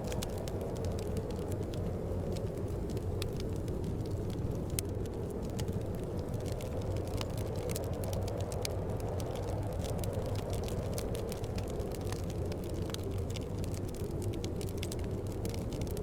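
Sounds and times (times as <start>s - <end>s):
low rumble of wind: 0.0s - 16.0s
wood fire crackling and popping: 0.0s - 16.0s.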